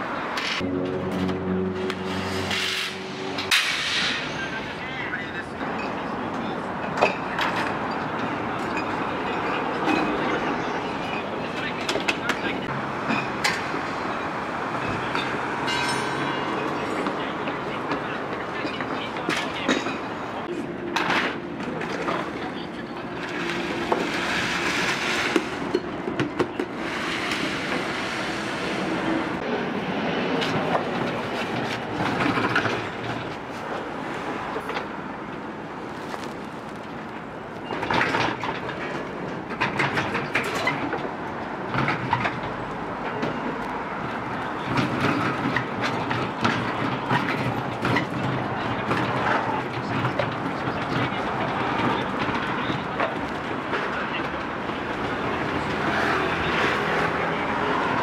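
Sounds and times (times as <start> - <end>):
steady noisy background: 0.0 - 58.0.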